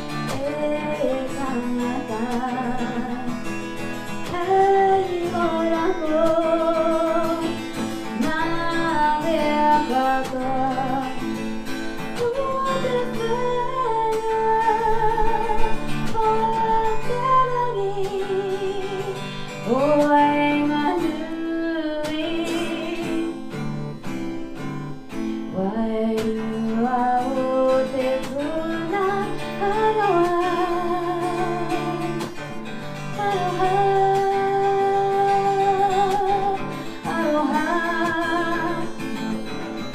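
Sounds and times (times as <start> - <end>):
acoustic guitar: 0.0 - 39.9
woman singing: 0.0 - 39.9.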